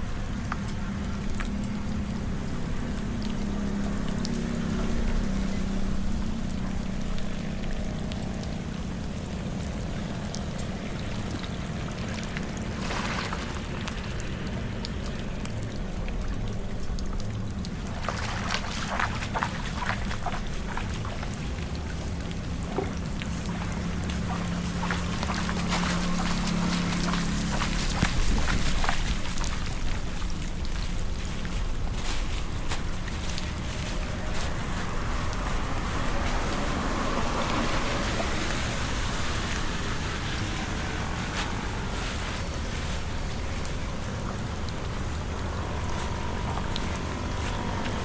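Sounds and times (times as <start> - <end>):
crackling and splashing: 0.0 - 48.0
water pouring into storm drain: 0.0 - 48.0.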